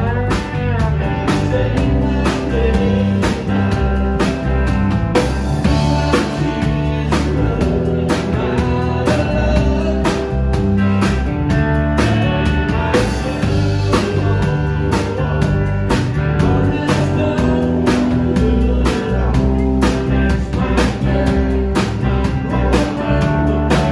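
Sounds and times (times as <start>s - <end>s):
person singing: 0.0s - 4.2s, 5.7s - 10.6s, 12.0s - 23.9s
bass guitar: 0.0s - 23.9s
drum kit beat: 0.0s - 23.9s
electric and acoustic guitars: 0.0s - 23.9s.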